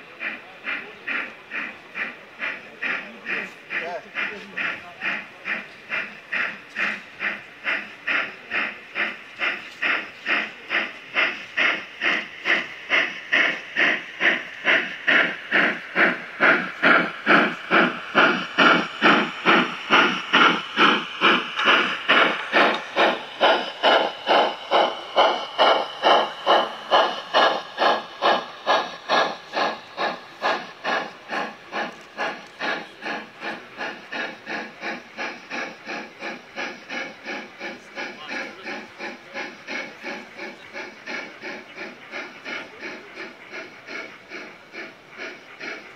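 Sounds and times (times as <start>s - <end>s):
model steam locomotive chuffing: 0.0s - 45.9s.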